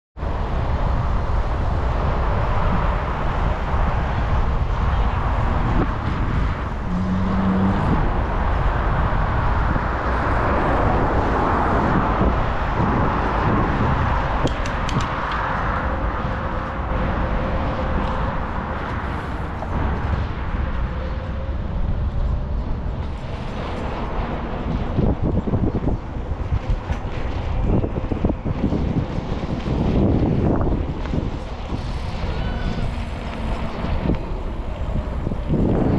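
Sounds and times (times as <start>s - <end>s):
wind buffeting microphone: 0.2s - 35.9s.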